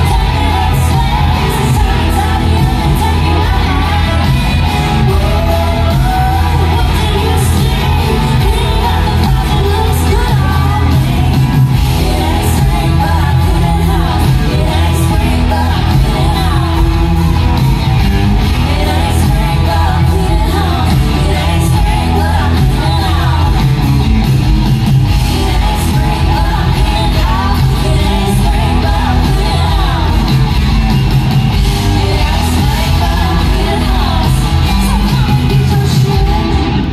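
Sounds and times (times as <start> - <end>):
women singing: 0.0 - 17.8, 18.4 - 24.0, 25.0 - 30.6, 31.5 - 36.9
live country band playing: 0.0 - 36.9.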